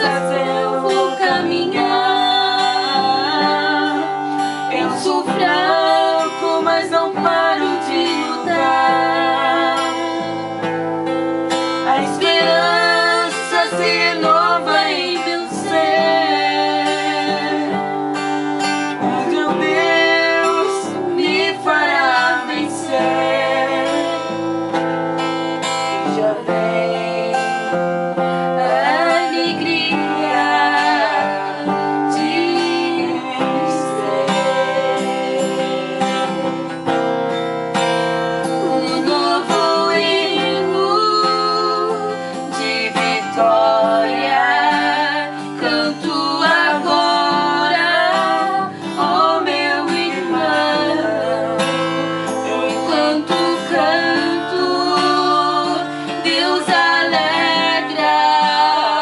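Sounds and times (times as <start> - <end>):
guitar-led gospel instrumental: 0.0 - 59.0.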